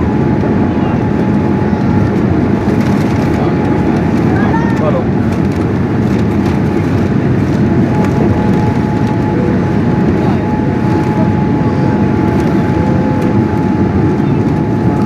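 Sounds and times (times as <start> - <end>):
aircraft engines rumbling: 0.0 - 15.0
faint steady whine: 0.0 - 15.0.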